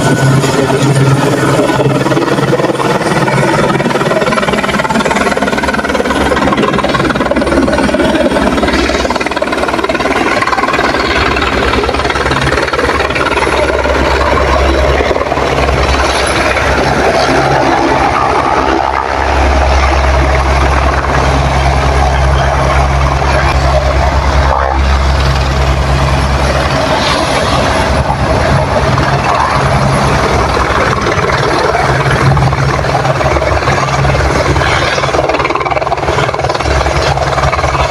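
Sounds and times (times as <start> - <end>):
helicopter rotor and engine: 0.0 - 37.9.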